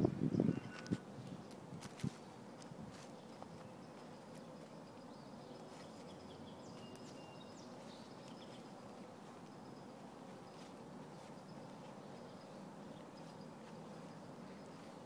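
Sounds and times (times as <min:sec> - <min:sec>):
distant bird calls: 0:00.0 - 0:01.6, 0:02.2 - 0:15.0
low background noise: 0:00.0 - 0:15.0.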